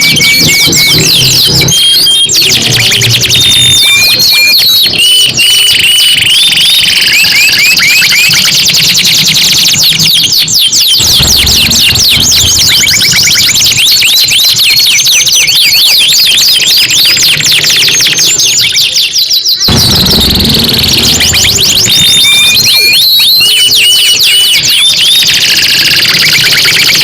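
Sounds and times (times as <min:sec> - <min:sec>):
canaries singing trills: 0:00.0 - 0:27.0.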